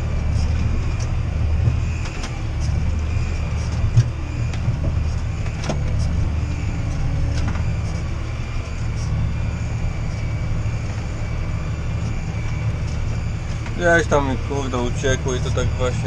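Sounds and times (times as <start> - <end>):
tractor engine under load: 0.0 - 16.0.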